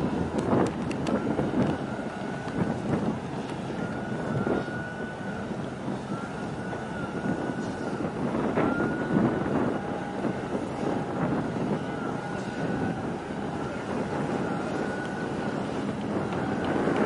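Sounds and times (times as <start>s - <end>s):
engine noise: 0.0s - 17.0s
harbour water rumble: 0.0s - 17.0s
wind on microphone: 0.0s - 17.0s
faint high whine: 1.1s - 17.0s.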